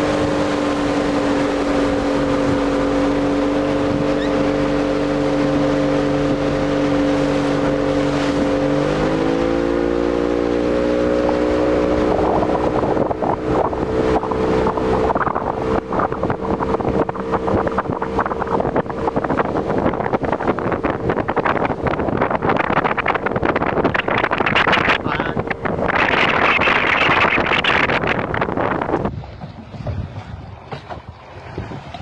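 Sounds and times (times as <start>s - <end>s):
motorboat engine running: 0.0s - 32.0s
wind buffeting microphone: 0.0s - 32.0s.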